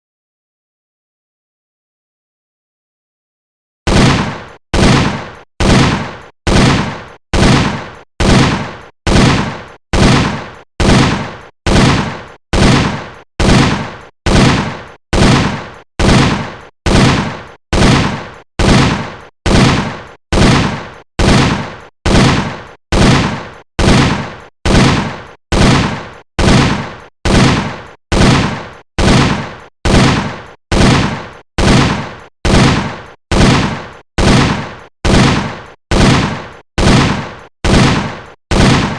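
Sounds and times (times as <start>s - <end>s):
machine gun single shots: 3.9s - 38.9s.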